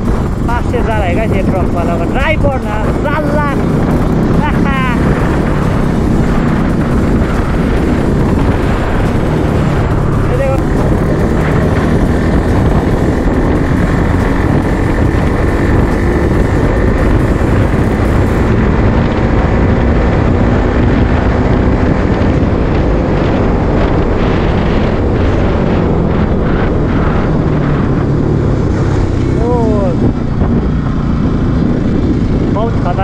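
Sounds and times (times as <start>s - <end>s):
motorcycle engine cruising: 0.0s - 33.0s
wind rushing over microphone: 0.0s - 33.0s.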